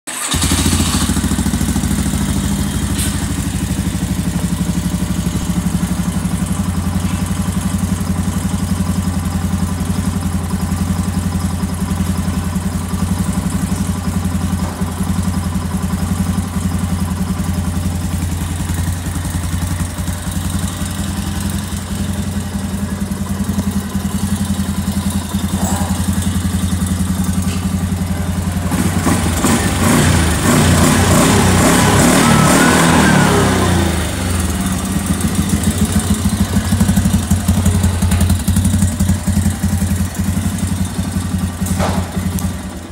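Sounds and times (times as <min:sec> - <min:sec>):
atv engine idling: 0:00.1 - 0:42.9.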